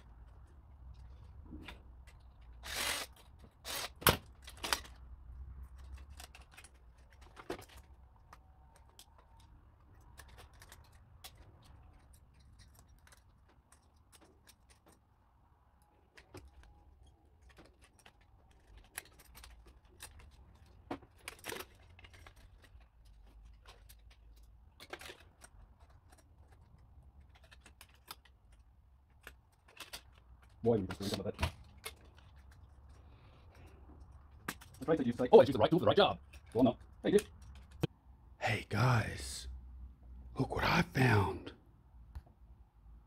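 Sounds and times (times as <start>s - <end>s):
plastic and metal parts rattling: 0.0s - 15.2s, 15.9s - 37.9s.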